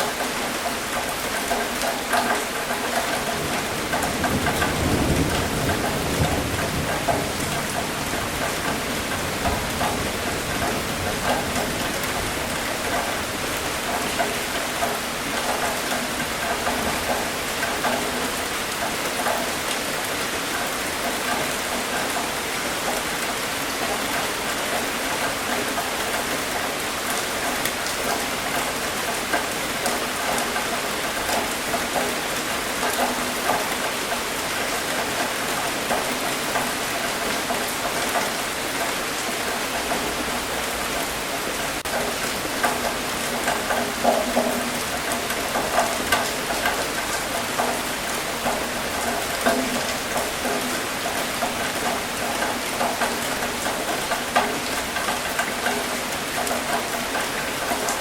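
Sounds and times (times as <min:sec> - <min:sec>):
rain on a hard surface: 0:00.0 - 0:58.0
water drips and splashes: 0:00.0 - 0:58.0.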